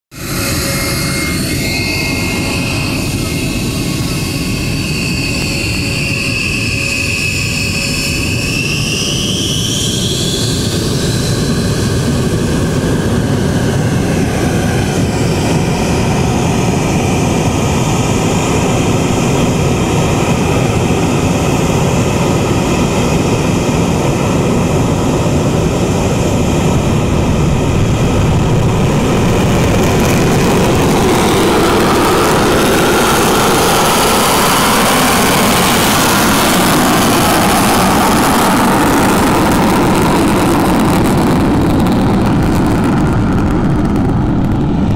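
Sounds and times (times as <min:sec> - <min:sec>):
high jet engine whine: 0:00.0 - 0:44.9
rushing jet noise: 0:00.1 - 0:44.9.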